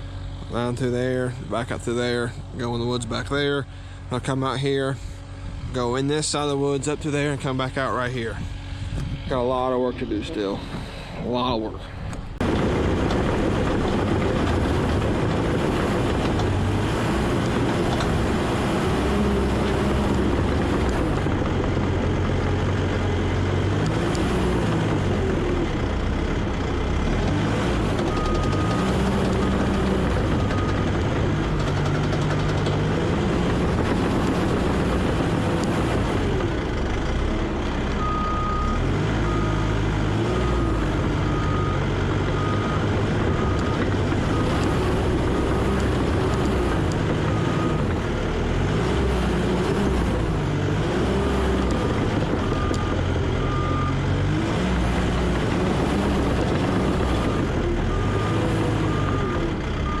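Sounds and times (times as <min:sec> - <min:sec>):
diesel engine working under load: 0:00.0 - 1:00.0.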